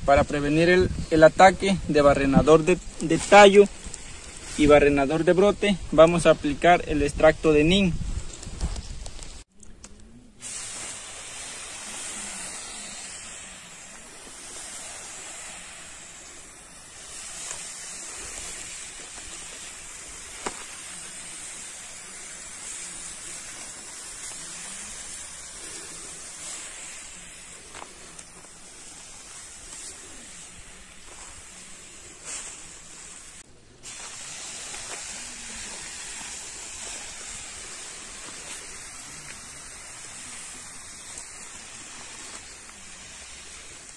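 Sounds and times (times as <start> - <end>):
sprayer mist hissing: 0.0 - 9.5, 10.2 - 43.9.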